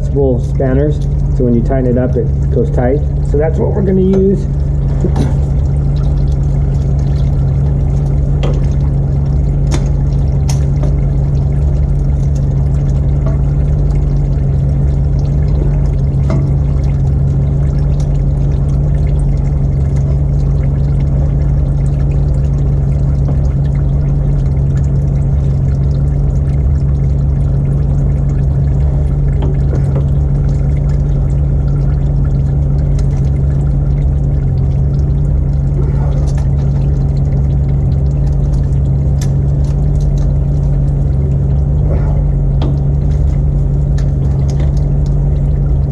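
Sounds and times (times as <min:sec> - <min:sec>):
oil pouring into drain pan: 0:00.0 - 0:45.9.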